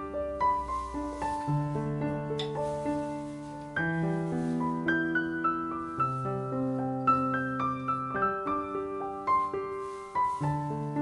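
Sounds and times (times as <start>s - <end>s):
solo piano music: 0.0s - 11.0s.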